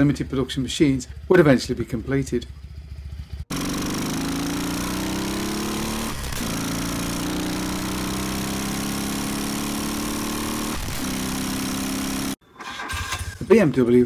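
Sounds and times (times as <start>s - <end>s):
motorcycle engine accelerating: 1.2s - 13.2s.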